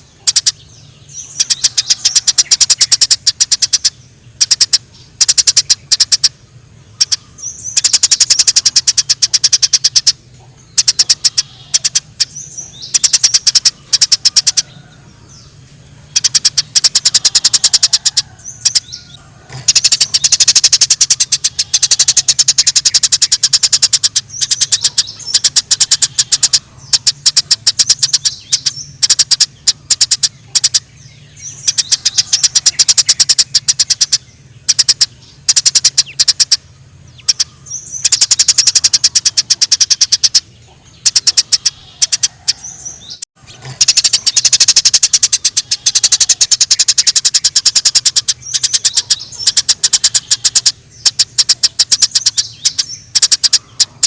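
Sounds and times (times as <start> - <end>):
faint low hum: 0.0 - 54.0
sparrows chattering chirps: 0.0 - 54.0.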